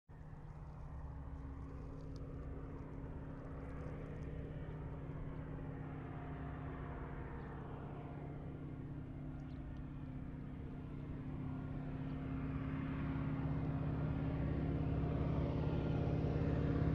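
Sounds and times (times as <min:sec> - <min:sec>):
propeller airplane engine droning: 0:00.1 - 0:16.9.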